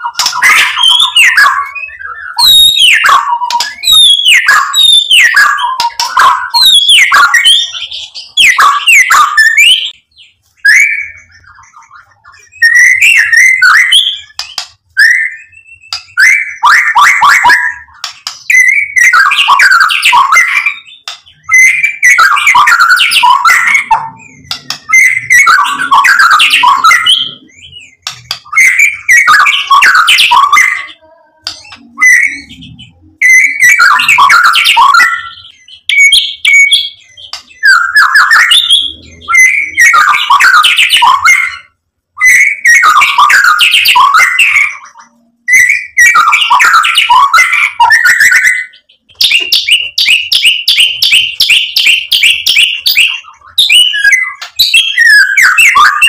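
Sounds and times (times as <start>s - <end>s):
bird singing whistled phrases: 0.0s - 56.0s.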